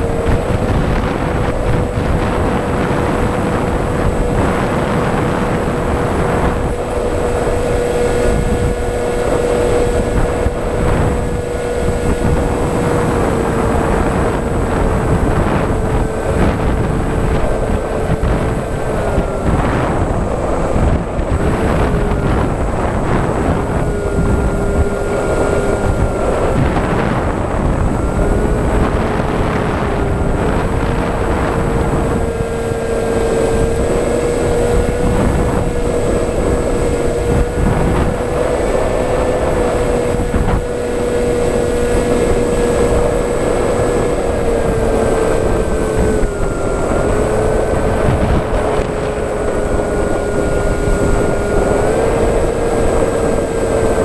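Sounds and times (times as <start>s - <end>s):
electric motor and propeller whine: 0.0s - 54.0s
wind rush on microphone: 0.0s - 54.0s.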